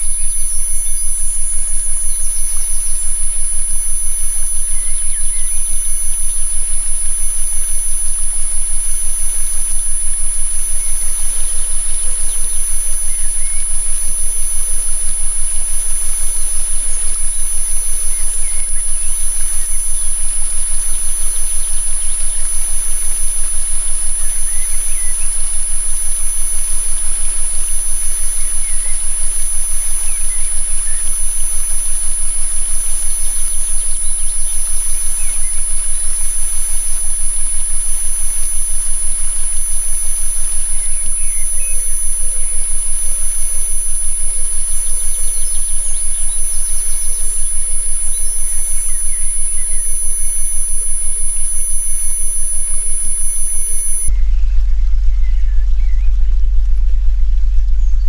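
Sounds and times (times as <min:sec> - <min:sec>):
electronic sine tones: 0:00.0 - 0:58.0
faint bird chirps: 0:00.0 - 0:58.0.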